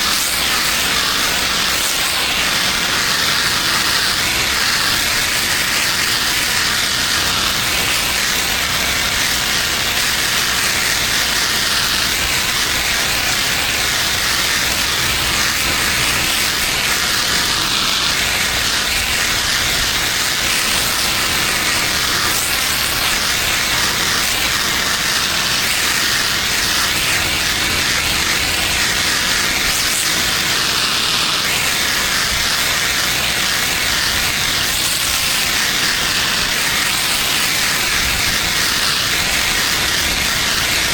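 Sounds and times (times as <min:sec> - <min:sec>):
pressure washer spraying: 0:00.0 - 0:40.9.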